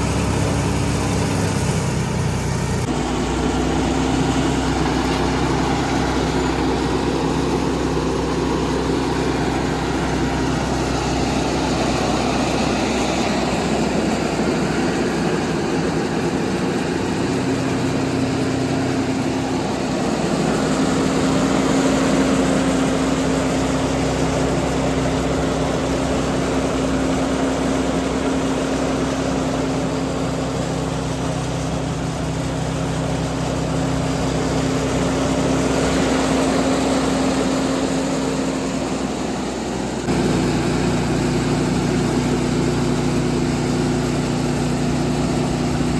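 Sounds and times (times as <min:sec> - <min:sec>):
heavy machinery engines running: 0:00.0 - 0:45.9.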